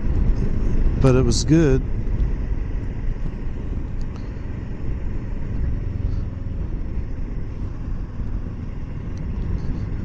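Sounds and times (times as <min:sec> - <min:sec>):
motorcycle engine rumble: 0:00.0 - 0:10.0.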